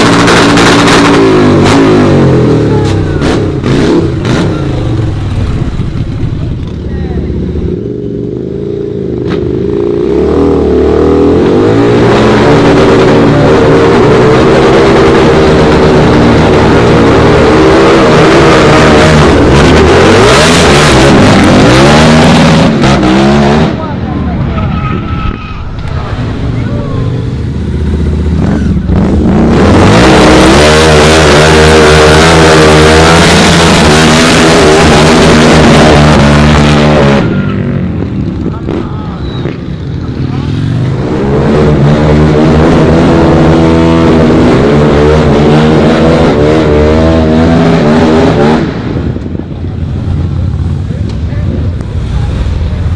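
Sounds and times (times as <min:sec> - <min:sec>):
motorcycle engine revving: 0:00.0 - 0:25.0, 0:25.6 - 0:52.9.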